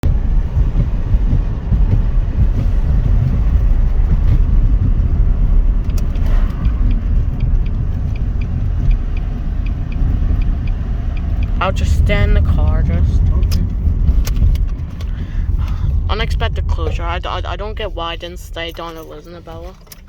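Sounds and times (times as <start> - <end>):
car engine low rumble: 0.0 - 20.0.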